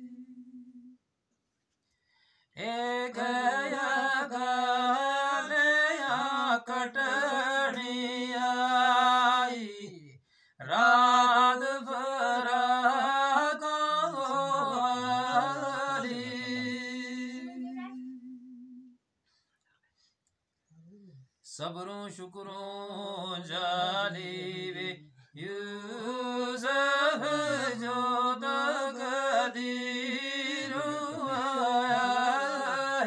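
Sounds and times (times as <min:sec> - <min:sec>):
man singing unaccompanied: 0:02.6 - 0:18.5, 0:21.5 - 0:33.0.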